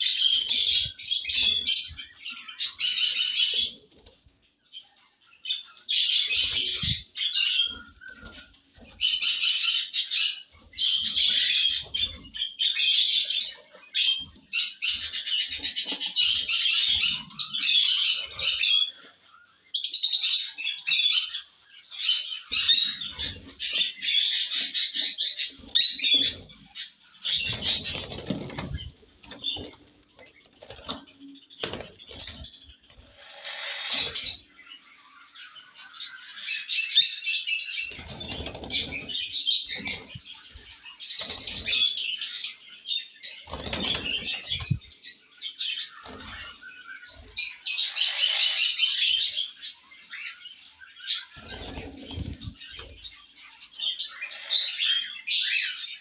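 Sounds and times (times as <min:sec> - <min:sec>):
parakeets chattering: 0:00.0 - 0:56.0.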